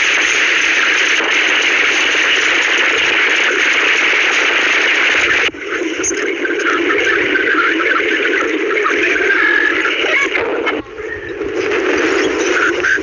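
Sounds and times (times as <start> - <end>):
harsh radio static noise: 0.0 - 13.0
thin noise with warbling tones: 0.0 - 13.0.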